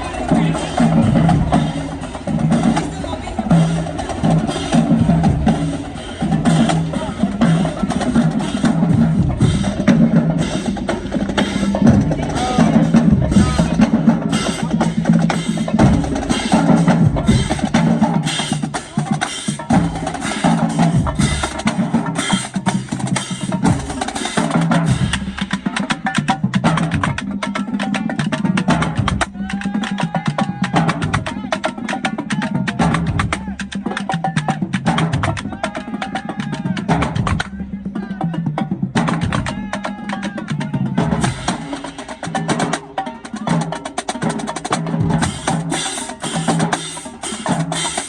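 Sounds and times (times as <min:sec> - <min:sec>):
bass drums: 0:00.0 - 0:31.6, 0:32.2 - 0:48.0.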